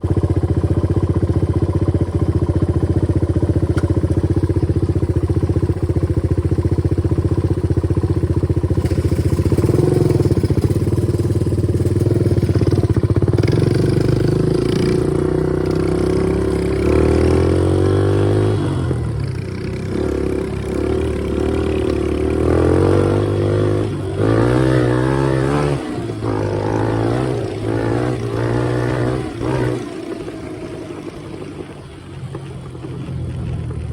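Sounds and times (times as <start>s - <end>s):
dirt bike engine revving: 2.3s - 31.8s.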